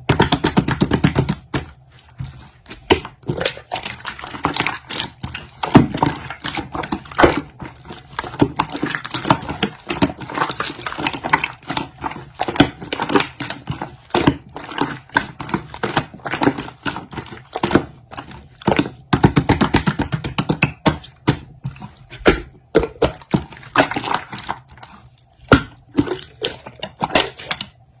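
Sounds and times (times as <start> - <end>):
slime squelching and clicking: 0.0 - 28.0.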